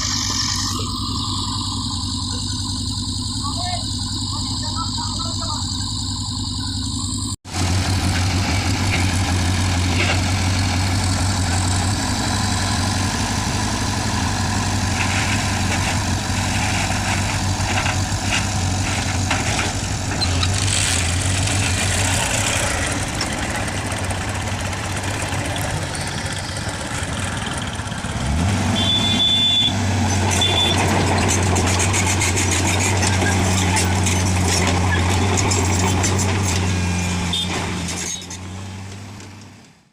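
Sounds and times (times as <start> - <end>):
heavy diesel engine: 0.0 - 39.9.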